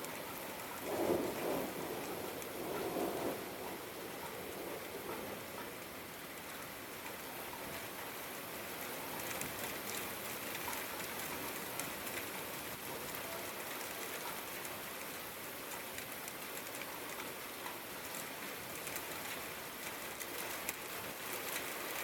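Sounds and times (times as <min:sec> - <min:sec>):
steady rainfall patter: 0:00.0 - 0:22.0.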